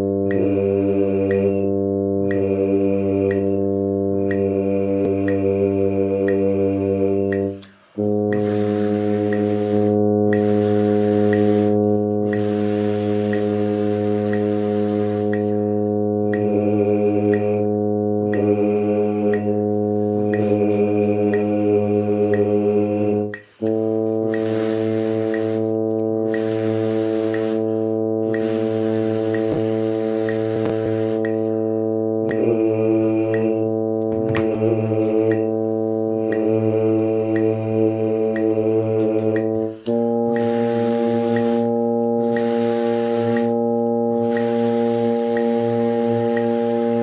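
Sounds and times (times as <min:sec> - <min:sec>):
drone reference tone: 0:00.0 - 0:47.0
metronome clicking: 0:00.0 - 0:47.0
mouthpieces buzzing low note: 0:00.0 - 0:47.0.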